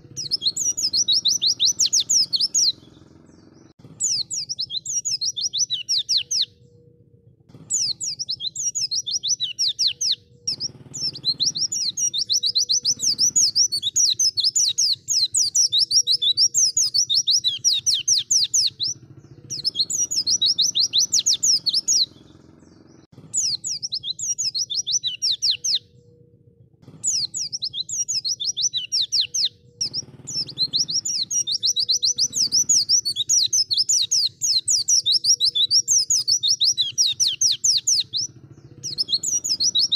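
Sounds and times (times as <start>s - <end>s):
bird twittering song: 0.0s - 39.9s
faint low hum: 0.0s - 39.9s.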